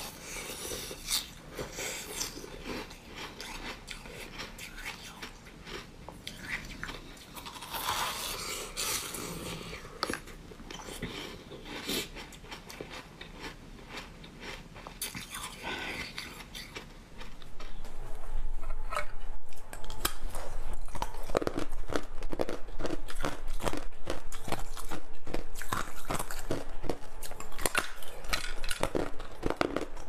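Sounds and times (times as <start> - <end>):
person crunching food: 0.0 - 18.0, 18.8 - 30.0.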